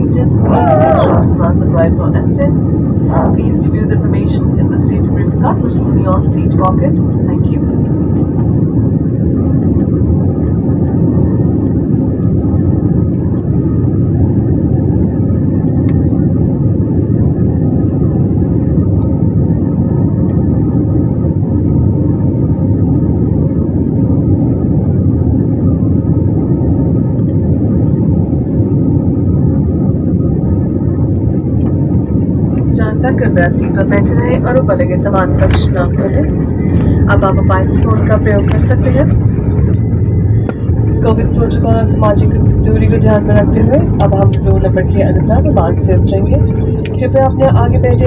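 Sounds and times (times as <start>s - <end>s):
faint steady hum: 0.0s - 48.0s
jet engine rumble in cabin: 0.0s - 48.0s.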